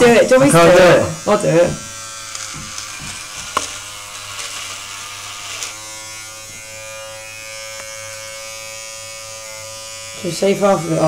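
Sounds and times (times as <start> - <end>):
electric shaver buzzing: 0.0 - 11.0.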